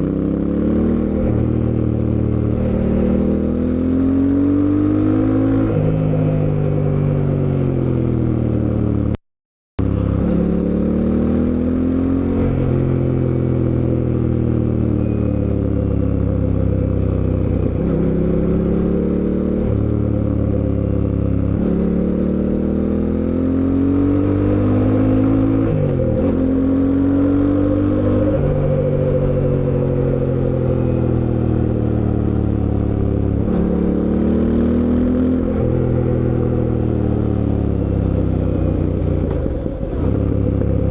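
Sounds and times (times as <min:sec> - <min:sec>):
motorcycle engine accelerating: 0:00.0 - 0:09.2, 0:09.8 - 0:40.9.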